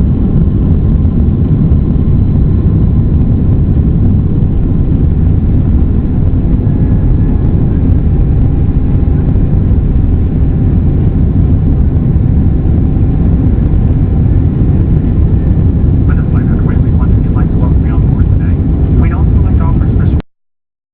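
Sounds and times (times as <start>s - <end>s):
jet engines rumbling in cabin: 0.0s - 20.2s.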